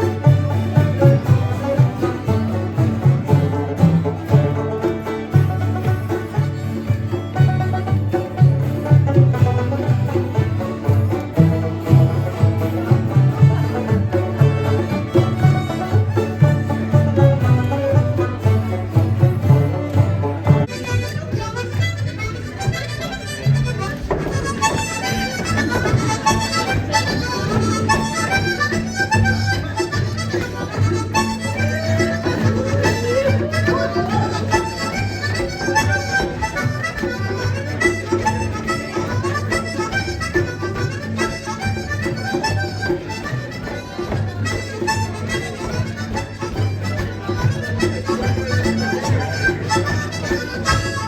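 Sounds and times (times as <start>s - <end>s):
folk music on free-reed instrument: 0.0s - 51.0s.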